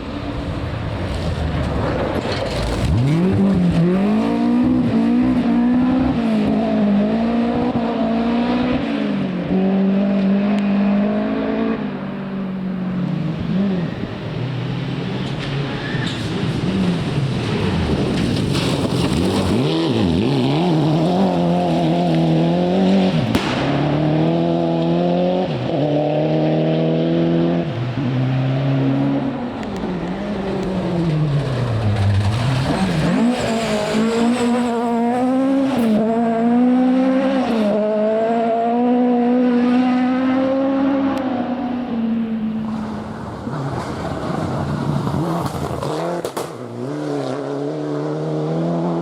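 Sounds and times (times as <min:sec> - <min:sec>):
rally car engine revving: 0:00.1 - 0:49.0.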